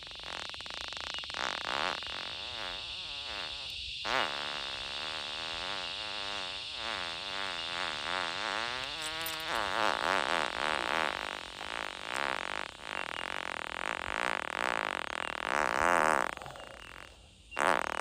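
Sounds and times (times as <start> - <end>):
long fart: 0.0 - 18.0.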